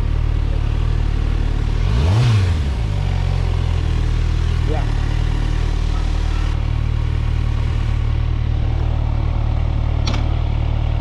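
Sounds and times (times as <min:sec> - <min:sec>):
motorcycle engine idling: 0:00.0 - 0:01.8, 0:02.6 - 0:11.0.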